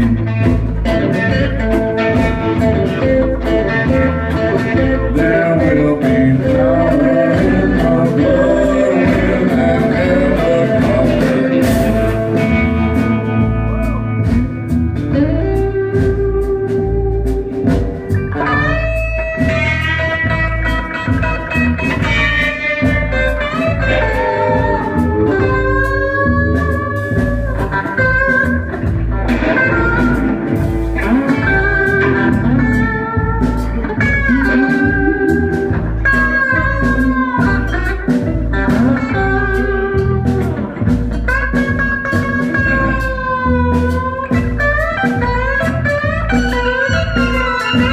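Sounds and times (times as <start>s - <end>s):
bass guitar notes: 0.0s - 47.9s
drum beat: 0.0s - 47.9s
electric guitar bending notes: 0.0s - 47.9s.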